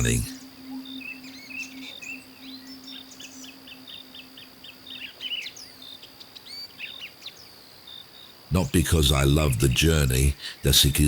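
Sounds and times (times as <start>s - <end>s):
birds chirping: 0.0s - 11.0s
insect drone: 0.0s - 11.0s.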